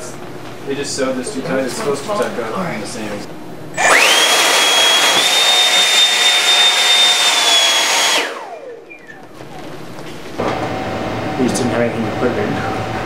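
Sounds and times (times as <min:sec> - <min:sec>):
electric fan whining: 0:00.0 - 0:13.0.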